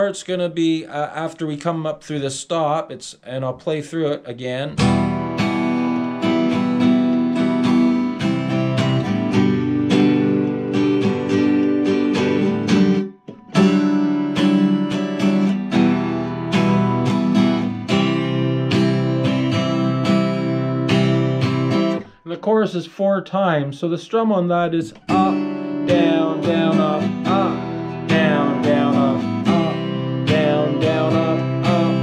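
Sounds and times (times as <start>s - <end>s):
acoustic guitar strumming: 4.4s - 22.7s, 24.3s - 32.0s.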